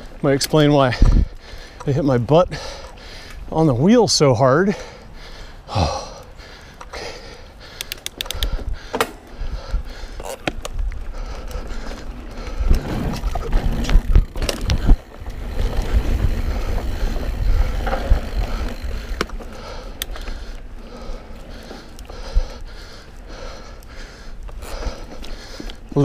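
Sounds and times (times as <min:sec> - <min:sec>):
bike clicks and rattles: 0:00.0 - 0:03.5, 0:05.2 - 0:26.0
bike tyres on dirt trail: 0:00.0 - 0:26.0.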